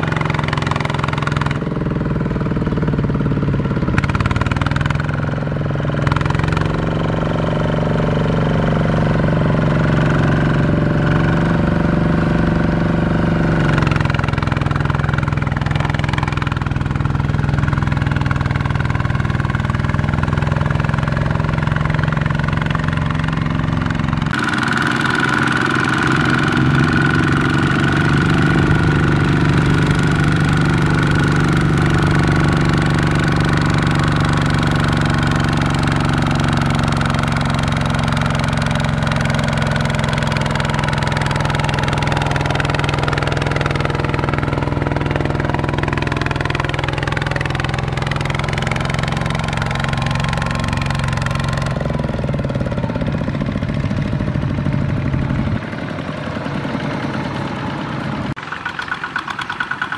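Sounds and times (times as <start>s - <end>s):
single-cylinder diesel engine running: 0.0s - 59.9s.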